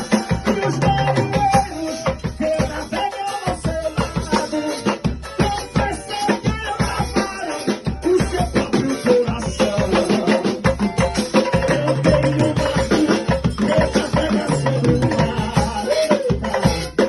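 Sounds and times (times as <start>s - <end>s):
gospel band music: 0.0s - 17.0s.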